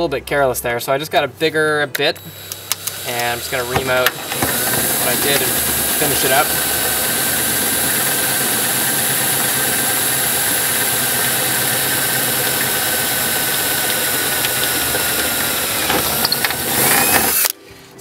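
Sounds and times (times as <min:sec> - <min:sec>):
power drill cutting metal: 0:02.2 - 0:17.6.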